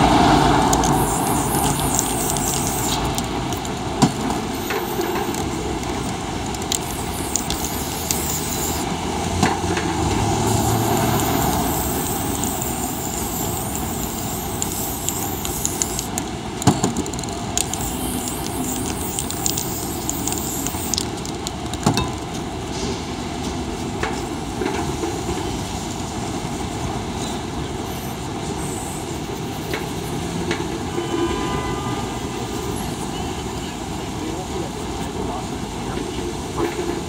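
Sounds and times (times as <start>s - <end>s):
city street traffic rumble: 0.0s - 37.0s.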